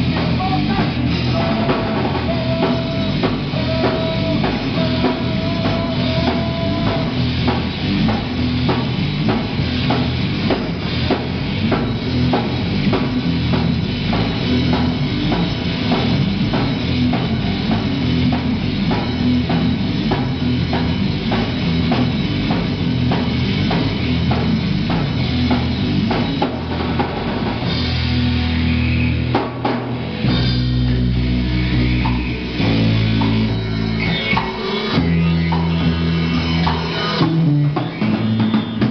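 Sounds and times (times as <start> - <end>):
drumming: 0.0 - 38.9
rock band playing: 0.0 - 38.9.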